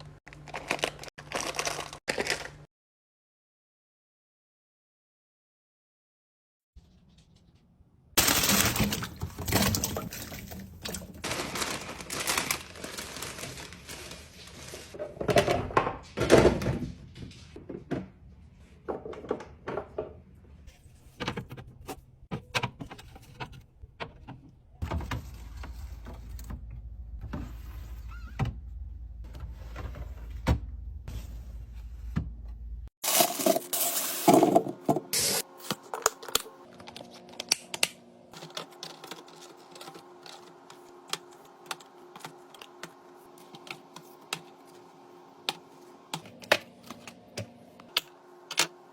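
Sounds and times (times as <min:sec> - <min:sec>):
fridge low hum: 0:08.2 - 0:48.9.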